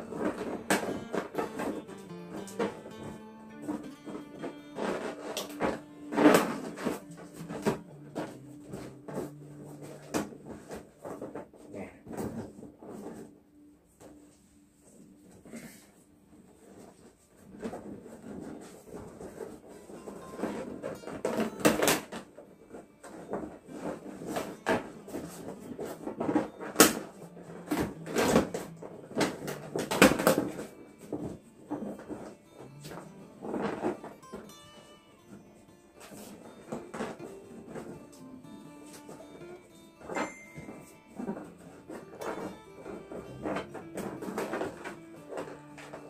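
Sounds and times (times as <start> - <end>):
balloons rubbing and knocking: 0.0 - 34.9, 36.0 - 46.0.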